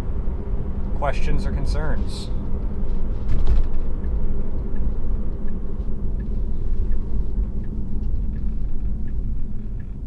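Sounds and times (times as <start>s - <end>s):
car road rumble: 0.0s - 10.0s.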